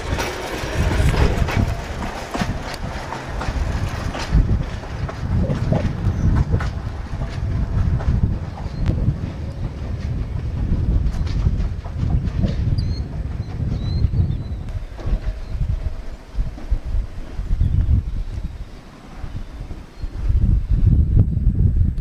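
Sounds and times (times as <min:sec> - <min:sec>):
wheel clicks on rails: 0:00.0 - 0:20.2
train rumbling on track: 0:00.0 - 0:22.0.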